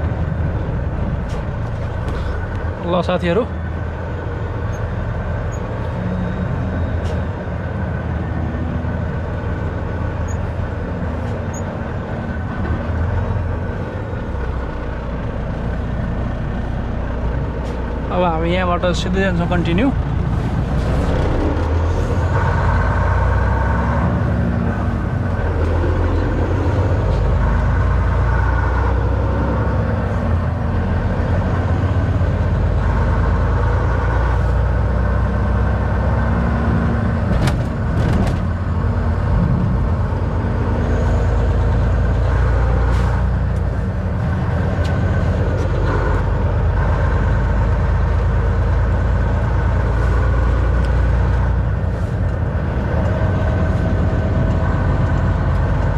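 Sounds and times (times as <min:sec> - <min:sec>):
truck engine drone: 0:00.0 - 0:55.9.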